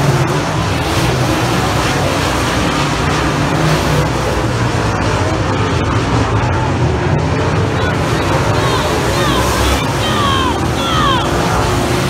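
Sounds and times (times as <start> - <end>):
race car engines roaring: 0.0 - 12.0.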